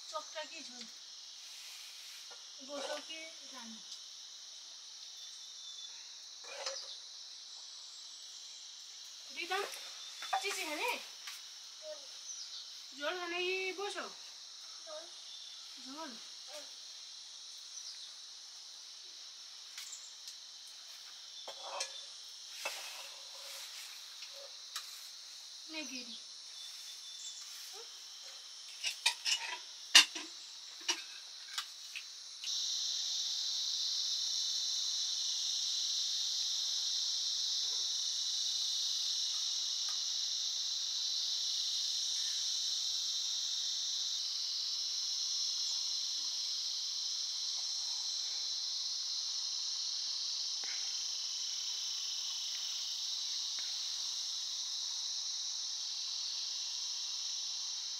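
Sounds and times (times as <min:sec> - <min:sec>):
high-pitched insect chorus: 0:00.0 - 0:57.9.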